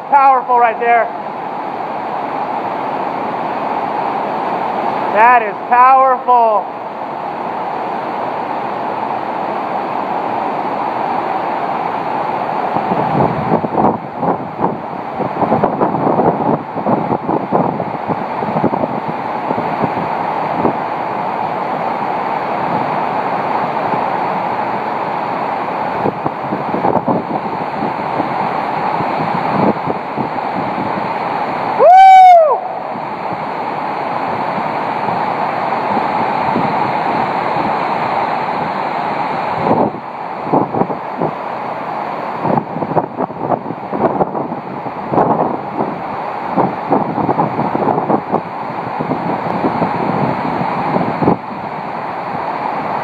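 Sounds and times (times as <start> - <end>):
driving rain: 0.0 - 53.0
strong wind: 0.0 - 53.0.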